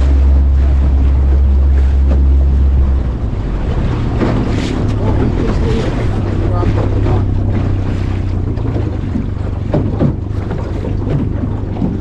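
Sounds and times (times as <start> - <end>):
motorboat engine droning: 0.0 - 12.0
water noise: 0.0 - 12.0
wind buffeting microphone: 0.0 - 12.0.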